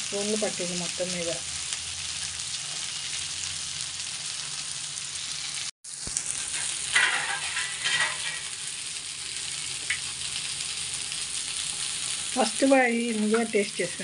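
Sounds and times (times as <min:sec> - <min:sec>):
fish sizzling in a pan: 0:00.0 - 0:14.0
oil crackling: 0:00.1 - 0:14.0.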